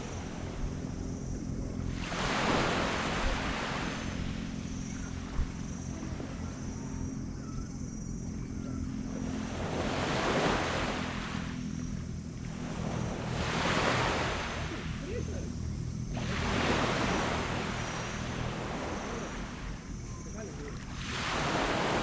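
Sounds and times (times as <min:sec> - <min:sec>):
small waves breaking on sand: 0:00.0 - 0:08.2, 0:08.9 - 0:22.0
low steady hum: 0:00.0 - 0:21.4.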